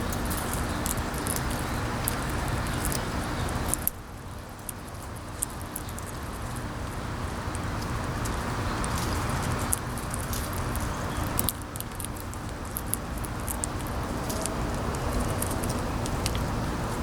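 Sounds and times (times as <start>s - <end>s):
small sharp clicks and ticks: 0.0s - 17.0s.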